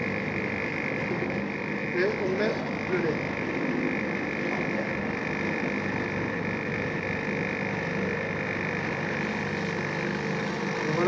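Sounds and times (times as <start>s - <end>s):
food processor motor drone: 0.0s - 11.0s.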